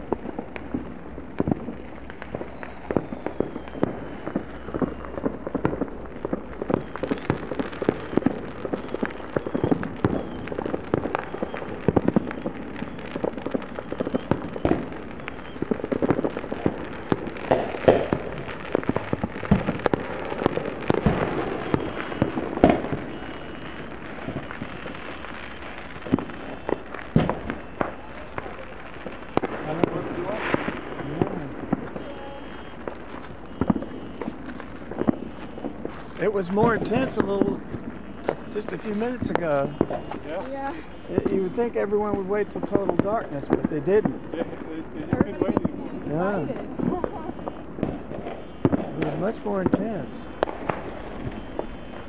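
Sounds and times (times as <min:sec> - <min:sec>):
distant fireworks crackling: 0:00.0 - 0:52.0
loud firework booms: 0:00.0 - 0:52.0.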